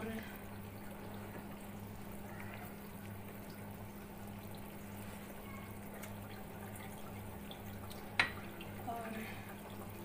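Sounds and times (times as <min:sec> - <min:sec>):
pot bubbling: 0:00.0 - 0:10.0.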